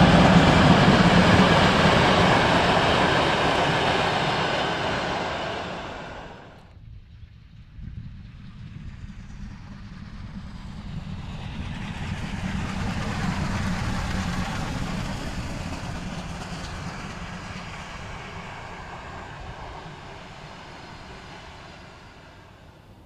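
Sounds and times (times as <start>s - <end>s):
passenger train passing: 0.0s - 6.7s, 10.0s - 23.0s.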